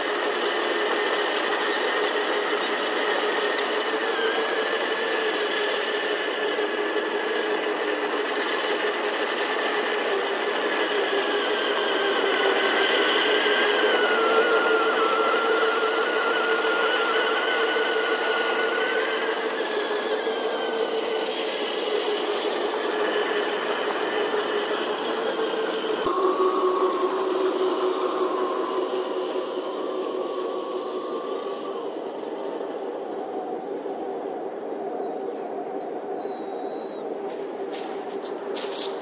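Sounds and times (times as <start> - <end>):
toy tank motor whine: 0.0 - 39.0.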